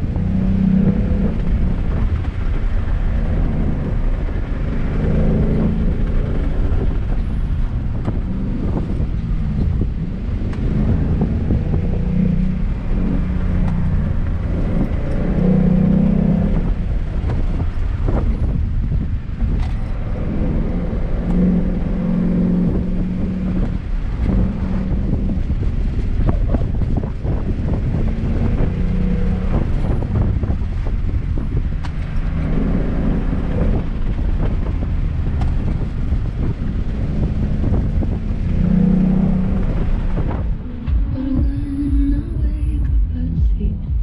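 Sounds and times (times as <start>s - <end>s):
car engine accelerating: 0.0s - 44.0s
road rumble: 0.0s - 44.0s
wind noise: 0.0s - 44.0s.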